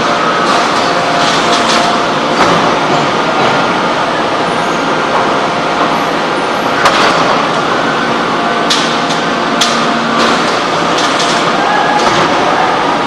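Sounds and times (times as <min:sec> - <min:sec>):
hydraulic forging press machinery: 0:00.0 - 0:13.0
steady hum: 0:00.0 - 0:13.0.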